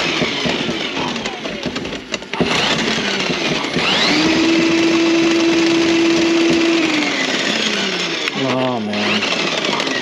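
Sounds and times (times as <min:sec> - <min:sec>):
drain snake motor whining: 0:00.0 - 0:10.0.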